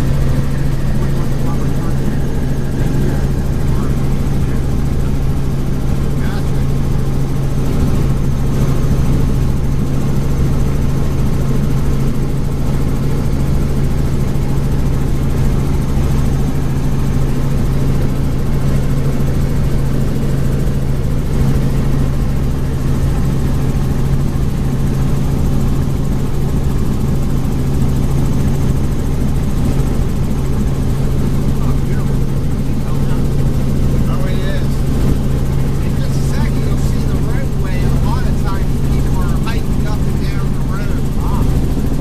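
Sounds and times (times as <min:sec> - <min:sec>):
helicopter engine and rotor drone: 0:00.0 - 0:42.0.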